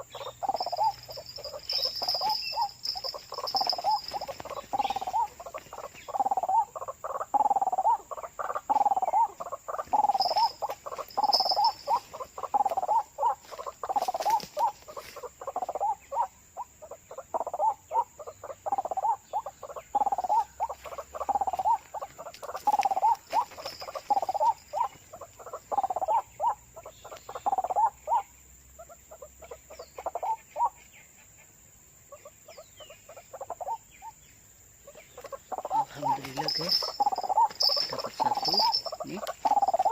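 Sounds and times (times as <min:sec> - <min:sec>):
waterhen croaking call: 0:00.0 - 0:30.8, 0:34.8 - 0:39.9.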